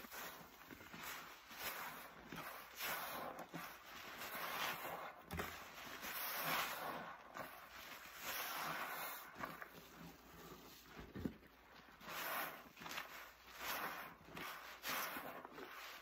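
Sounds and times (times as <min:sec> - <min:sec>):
wet sponge squishing: 0:00.0 - 0:16.0.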